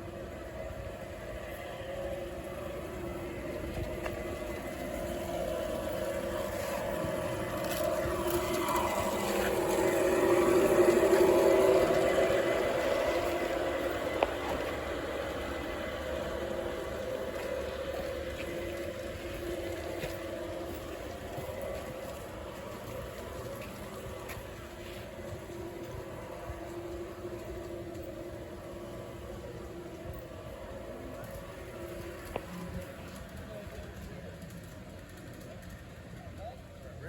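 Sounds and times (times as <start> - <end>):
model train passing: 0.0 - 37.0.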